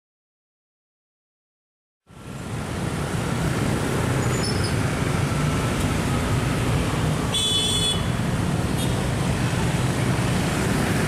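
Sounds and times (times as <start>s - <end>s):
traffic engines rumbling: 2.1s - 11.0s.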